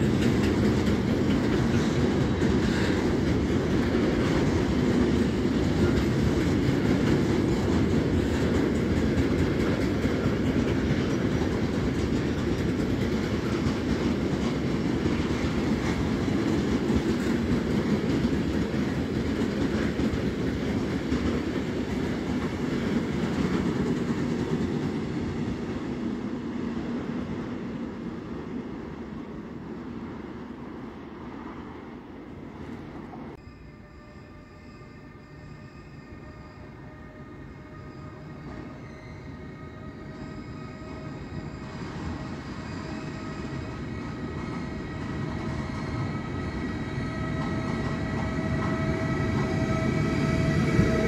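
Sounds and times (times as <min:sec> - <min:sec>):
freight train wagons rolling: 0:00.0 - 0:26.4, 0:35.9 - 0:51.0.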